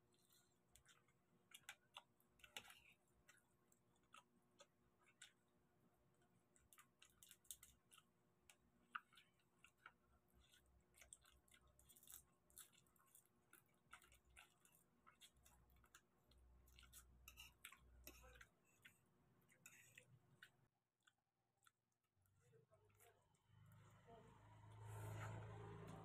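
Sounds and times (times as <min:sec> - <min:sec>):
people chewing: 0:00.0 - 0:23.9.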